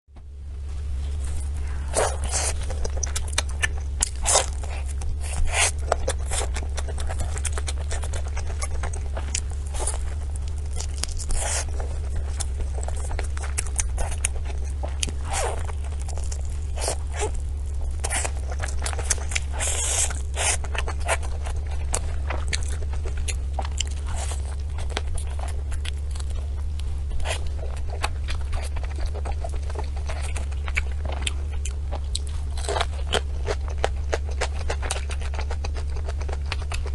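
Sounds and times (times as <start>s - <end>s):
low hum: 0.1s - 36.9s
crunching and chewing: 1.0s - 36.9s
sharp crackles: 1.1s - 36.8s.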